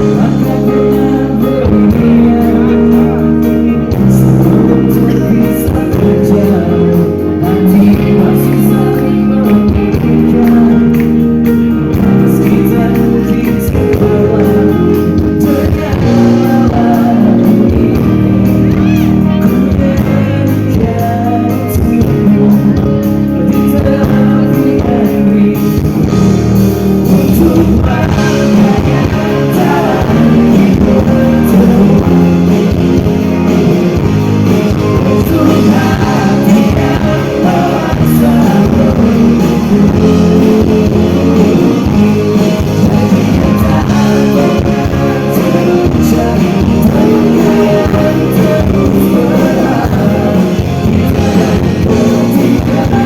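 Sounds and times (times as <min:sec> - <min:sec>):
live rock band: 0:00.0 - 0:53.0.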